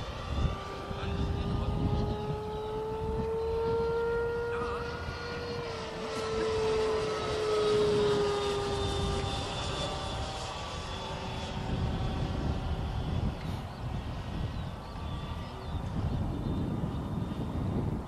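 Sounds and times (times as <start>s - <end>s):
electric ducted fan whining: 0.0s - 18.0s.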